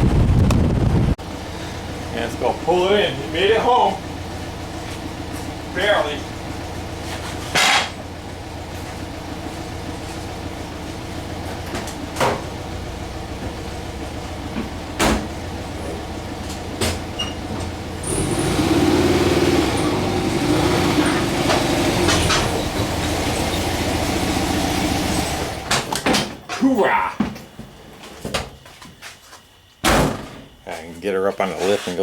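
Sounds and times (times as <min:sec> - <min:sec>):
van engine running: 0:00.0 - 0:26.1.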